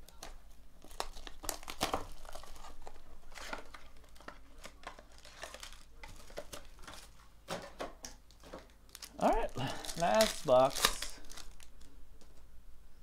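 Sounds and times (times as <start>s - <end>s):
plastic wrap crinkling: 0.0s - 12.4s.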